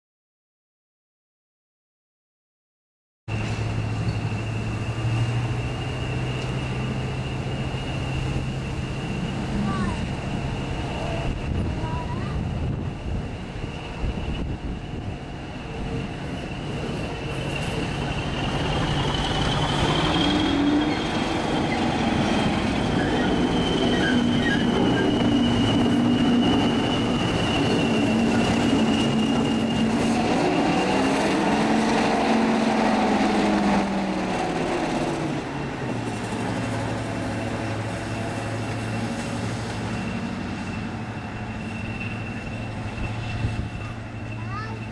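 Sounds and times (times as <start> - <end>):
diesel locomotives passing: 3.3 - 44.9
steady high whine: 3.3 - 44.9.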